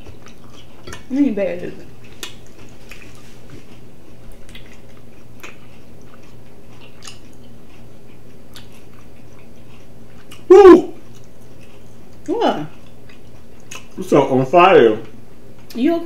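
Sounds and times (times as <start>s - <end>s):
chewing and crunching: 0.0s - 14.2s.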